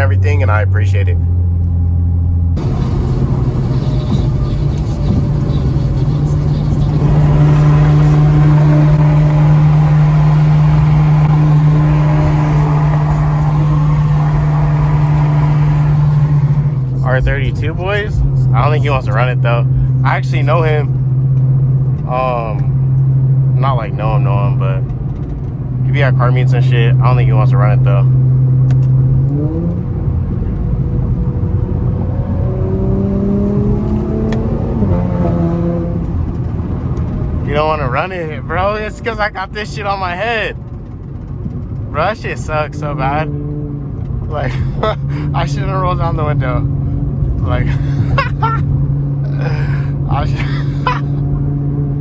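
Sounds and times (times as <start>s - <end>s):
car engine droning: 0.0s - 52.0s
road noise: 0.0s - 52.0s.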